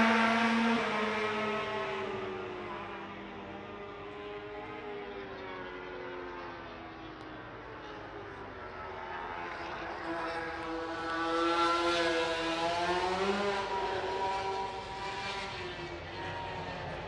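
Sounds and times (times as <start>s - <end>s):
racing motorcycle passing: 0.0s - 17.0s.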